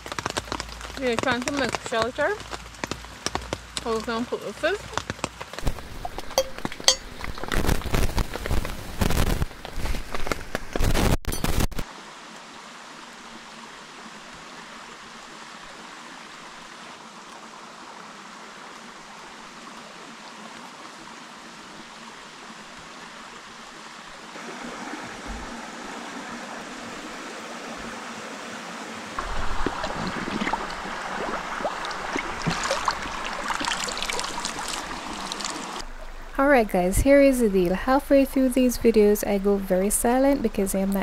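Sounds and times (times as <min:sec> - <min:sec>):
flowing river water: 0:00.0 - 0:10.4, 0:11.8 - 0:40.9.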